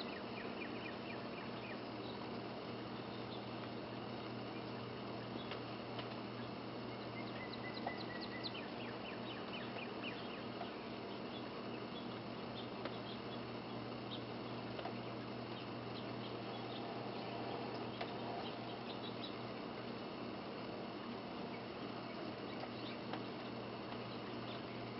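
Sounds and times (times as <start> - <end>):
faint high chirps and ticks: 0.0 - 24.9
low hum: 0.0 - 24.9.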